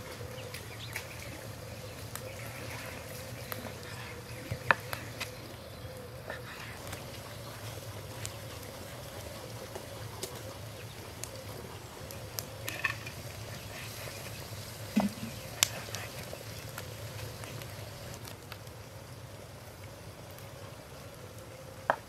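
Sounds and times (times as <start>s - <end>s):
wood fire rushing: 0.0s - 21.4s
fire crackling and popping: 0.0s - 22.0s.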